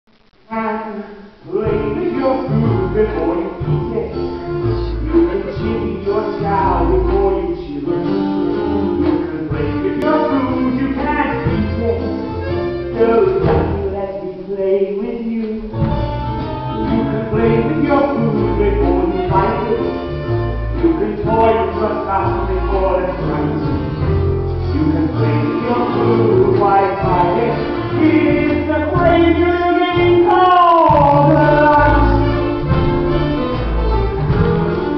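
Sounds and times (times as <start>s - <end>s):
man singing: 0.5s - 16.1s, 16.7s - 24.0s, 24.7s - 32.6s
instrumental accompaniment: 1.5s - 14.4s, 15.0s - 34.9s.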